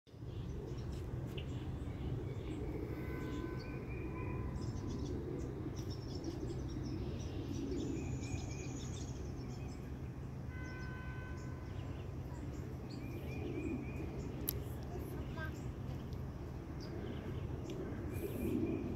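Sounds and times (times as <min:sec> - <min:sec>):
steady low rumble: 0:00.1 - 0:18.9
wild birds calling: 0:00.2 - 0:18.9.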